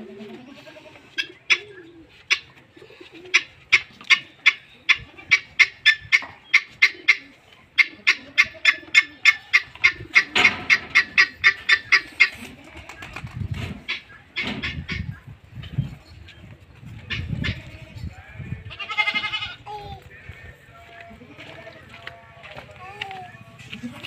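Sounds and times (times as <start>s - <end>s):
doves cooing: 0.0s - 19.5s.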